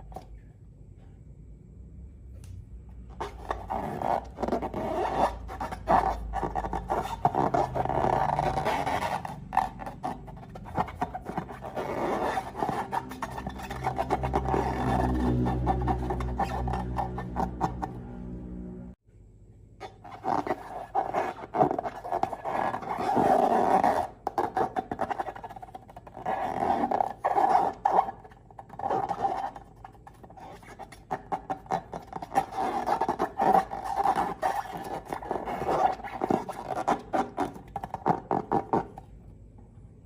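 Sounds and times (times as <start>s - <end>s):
balloons squeaking: 3.1s - 18.1s, 19.8s - 39.0s.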